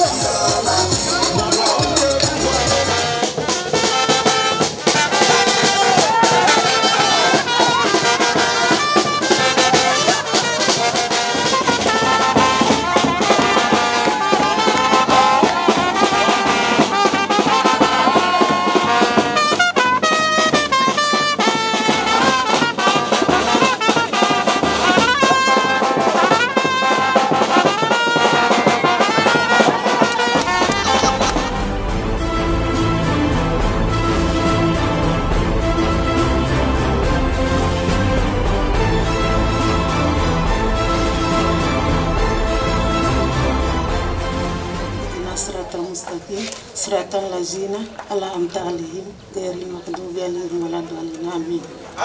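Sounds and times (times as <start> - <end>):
steady percussive beat: 0.0 - 45.8
brass dance music: 0.0 - 46.0.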